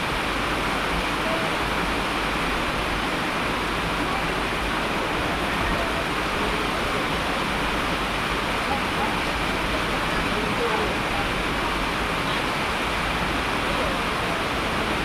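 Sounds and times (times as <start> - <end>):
falling water rushing: 0.0 - 15.0.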